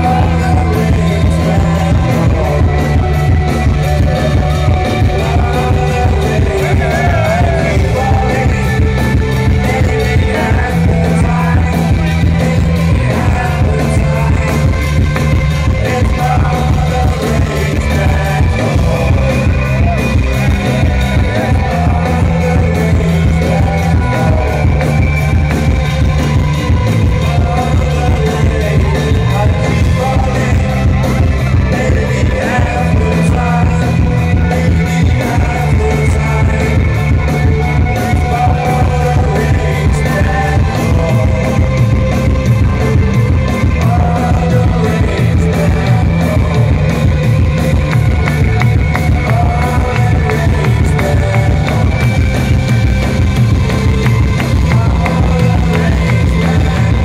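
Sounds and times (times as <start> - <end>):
person singing: 0.0 - 57.0
rock band playing live: 0.0 - 57.0.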